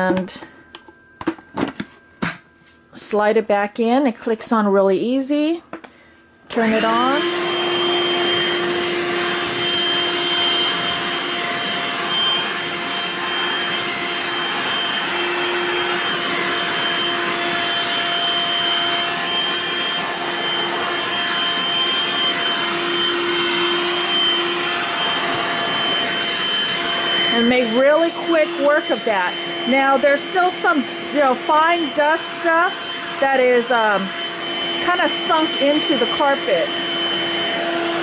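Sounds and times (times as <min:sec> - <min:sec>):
handheld vacuum running: 0:06.5 - 0:38.0.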